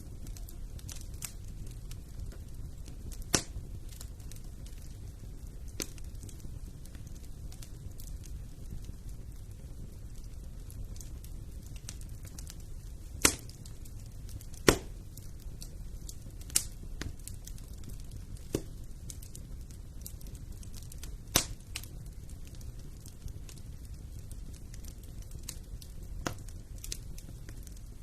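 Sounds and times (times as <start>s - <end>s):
sharp pops of fire: 0.0s - 28.0s
wood fire crackling: 0.0s - 28.0s.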